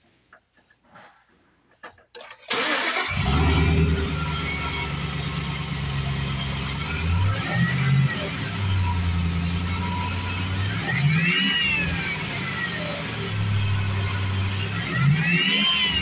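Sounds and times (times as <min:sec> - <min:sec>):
engine whine: 0:02.5 - 0:16.0
truck engine idling and revving: 0:02.5 - 0:16.0.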